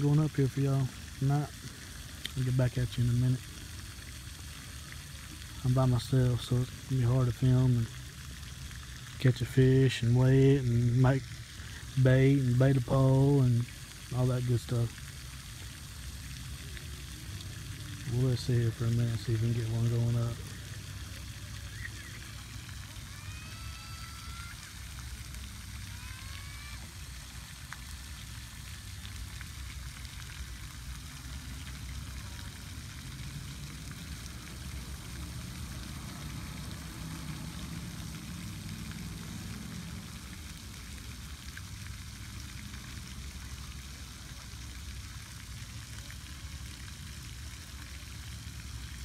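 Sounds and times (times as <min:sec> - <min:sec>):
fountain spray splashing: 0:00.0 - 0:49.0.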